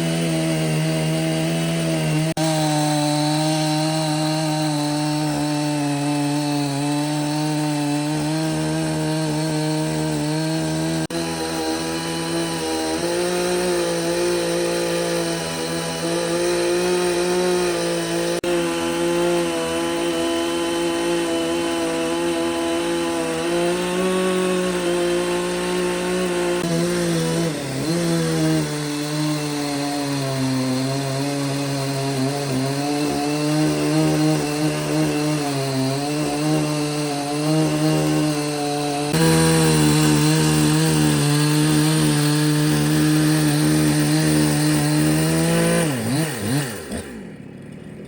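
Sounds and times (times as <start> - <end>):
motor saw cutting wood: 0.0 - 48.0.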